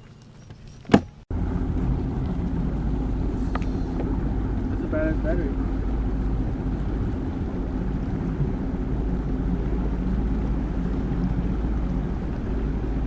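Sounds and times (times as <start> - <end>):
boat motor rumbling: 0.0 - 13.0
wind: 0.0 - 13.0
water rushing: 1.3 - 13.0.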